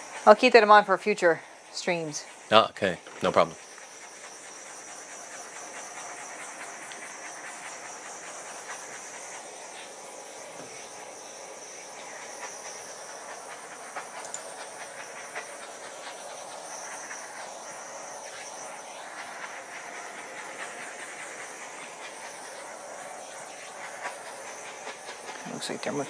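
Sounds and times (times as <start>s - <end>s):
torch flame hissing: 0.0s - 26.0s.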